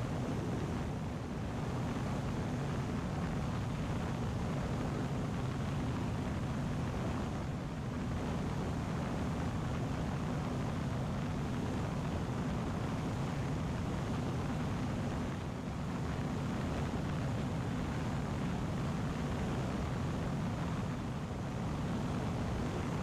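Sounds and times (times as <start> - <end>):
wind noise: 0.0 - 23.0.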